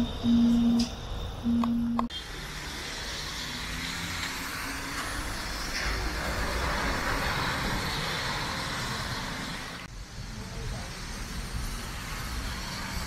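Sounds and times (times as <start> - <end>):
bus passing: 0.0 - 13.0
traffic on wet road: 2.1 - 13.0.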